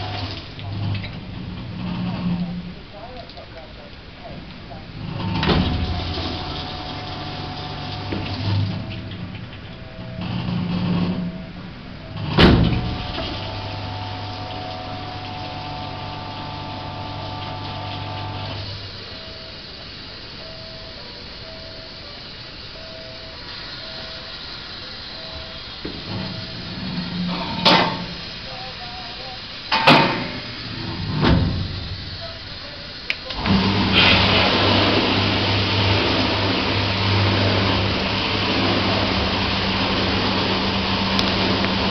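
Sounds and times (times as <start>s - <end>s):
dishwasher humming and whining: 0.0s - 41.9s
water spraying: 0.0s - 41.9s.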